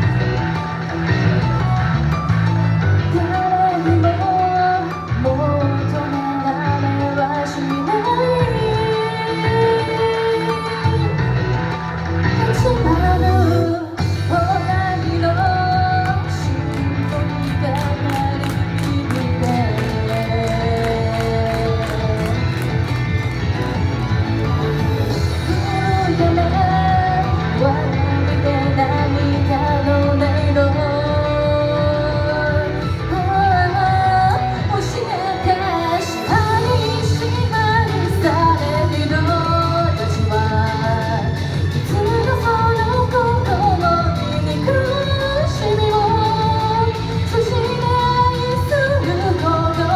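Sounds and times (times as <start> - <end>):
person singing pop-rock song: 2.9 - 11.6, 12.3 - 23.2, 25.1 - 49.9.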